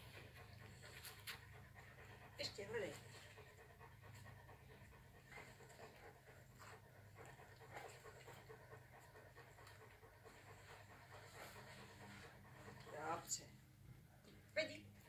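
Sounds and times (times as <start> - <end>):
dog sniffing and panting: 0.0 - 15.0.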